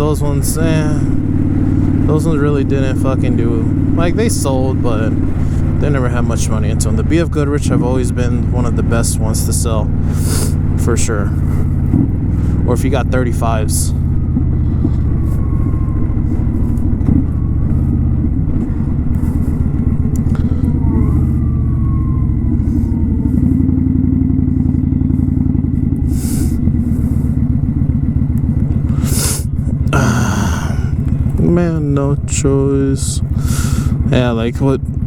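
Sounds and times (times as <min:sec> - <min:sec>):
motorcycle engine pulsing: 0:00.0 - 0:35.0.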